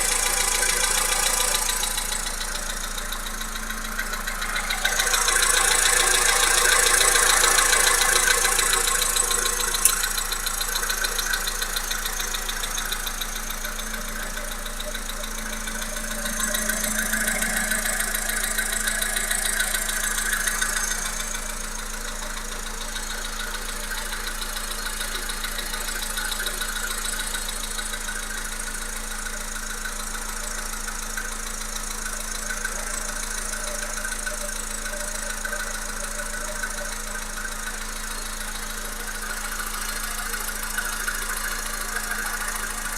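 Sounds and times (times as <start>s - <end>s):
car engine running: 0.0s - 42.9s
rapid engine knocking: 0.0s - 42.9s.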